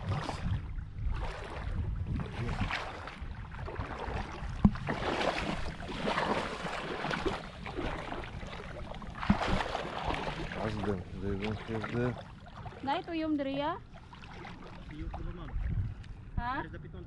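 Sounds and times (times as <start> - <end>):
wading through water: 0.0 - 16.6.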